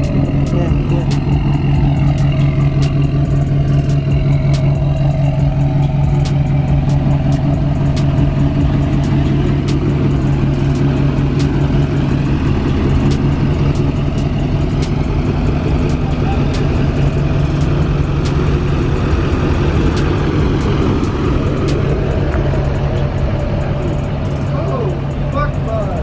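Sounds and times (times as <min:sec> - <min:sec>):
diesel engine idling: 0:00.0 - 0:26.0
sharp ticks: 0:00.0 - 0:26.0.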